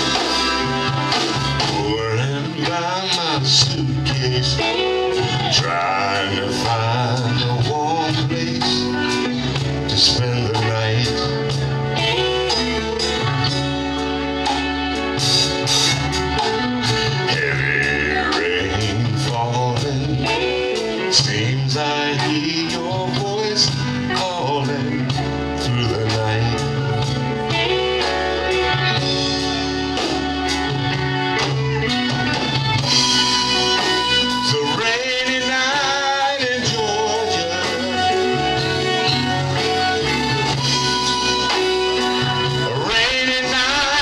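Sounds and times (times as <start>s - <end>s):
bass line: 0.0s - 44.0s
live band playing soul ballad: 0.0s - 44.0s.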